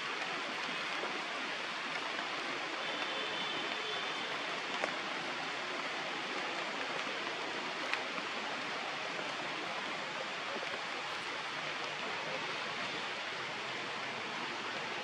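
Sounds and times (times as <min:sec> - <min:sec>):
steady outdoor background hiss: 0:00.0 - 0:15.0.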